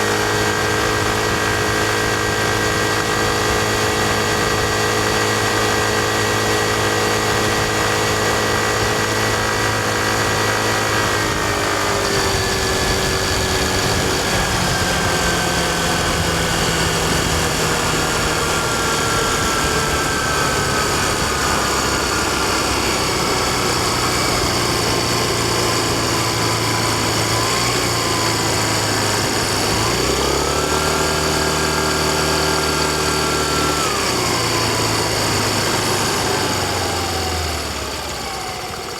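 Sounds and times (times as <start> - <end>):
scooter engine: 0.0 - 38.9
wind and road noise: 0.0 - 38.9.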